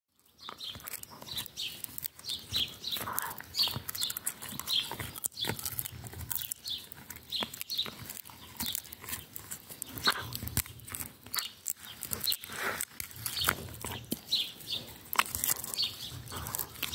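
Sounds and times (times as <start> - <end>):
dog chewing wooden stick: 0.1 - 16.9.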